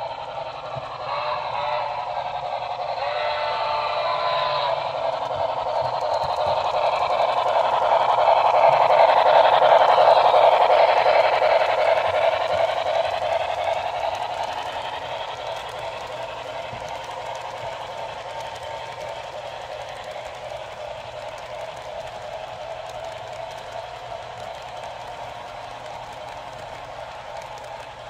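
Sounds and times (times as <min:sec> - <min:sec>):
model locomotive running: 0:00.0 - 0:28.0
model train wheels on track: 0:00.0 - 0:28.0.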